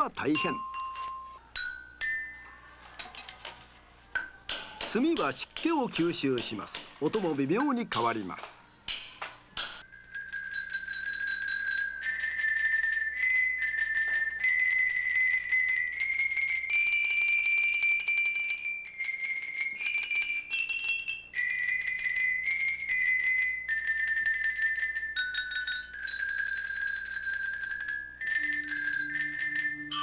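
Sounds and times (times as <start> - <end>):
xylophone melody with mallet rolls: 0.0 - 3.6, 4.2 - 30.0.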